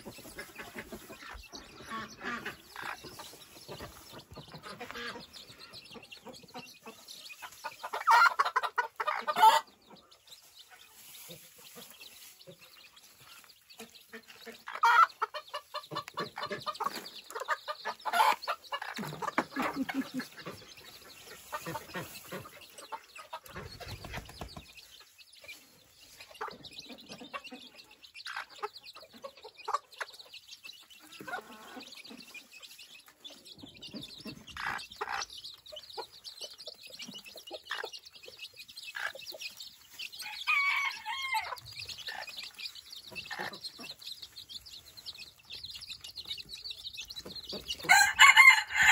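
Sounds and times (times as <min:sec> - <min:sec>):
chicks peeping: 0:00.0 - 0:48.9
hen clucking: 0:00.0 - 0:48.9.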